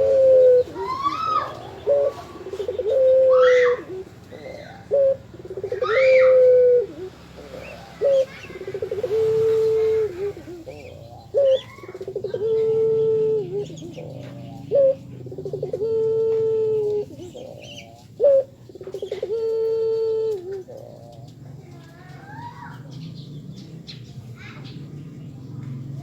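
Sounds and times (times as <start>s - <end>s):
dove cooing: 0.0s - 26.0s
small birds chirping: 0.0s - 26.0s.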